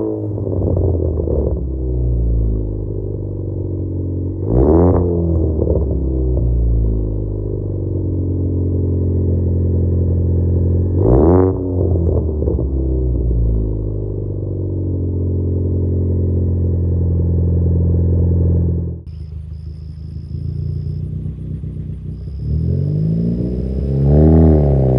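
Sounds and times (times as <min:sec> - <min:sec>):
car exhaust deep grumble: 0:00.0 - 0:24.9
engine rev: 0:00.0 - 0:24.9.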